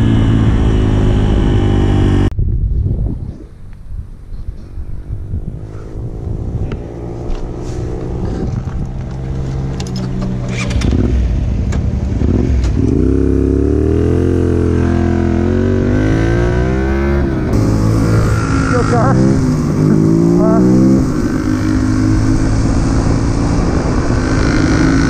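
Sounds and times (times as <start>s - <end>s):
motorcycle engine idling and accelerating: 0.0s - 25.0s.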